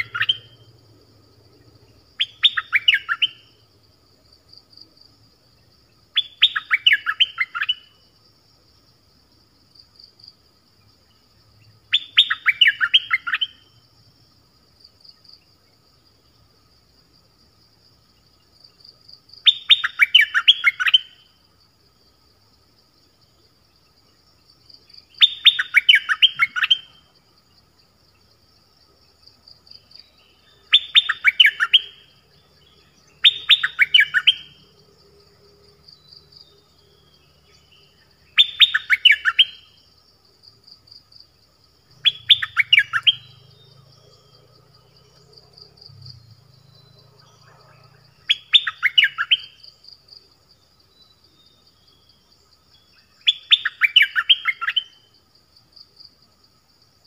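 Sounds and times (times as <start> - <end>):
high insect buzz: 0.0 - 53.6
songbird singing: 0.0 - 57.0.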